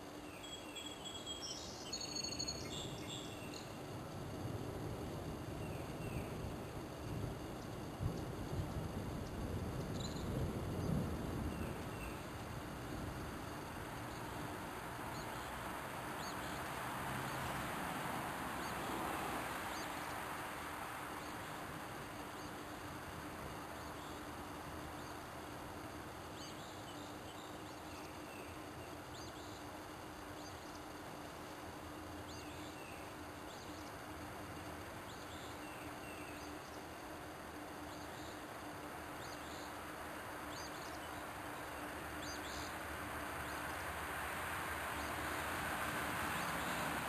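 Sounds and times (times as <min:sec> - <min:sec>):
steady hiss: 0:00.0 - 0:47.0
broad rush of noise: 0:02.1 - 0:47.0.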